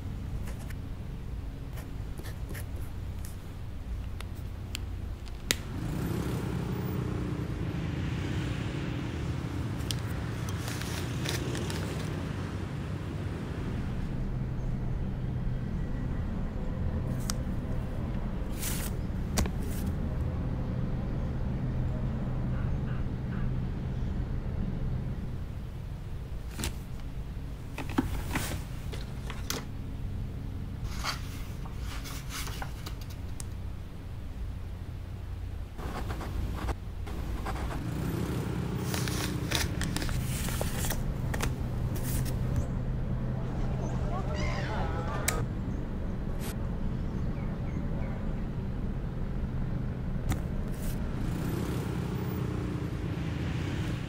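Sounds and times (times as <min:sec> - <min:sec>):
low traffic rumble: 0:00.0 - 0:54.0.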